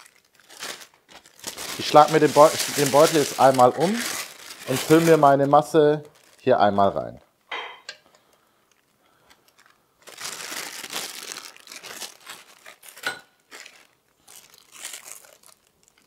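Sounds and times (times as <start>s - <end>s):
plastic bags crinkling: 0.0s - 6.6s, 8.7s - 16.0s.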